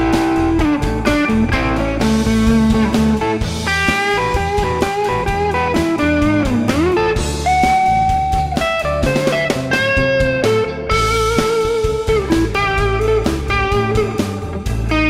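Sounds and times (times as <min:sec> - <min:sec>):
backing track drums and bass: 0:00.0 - 0:15.0
electric guitar blues lead: 0:00.0 - 0:15.0.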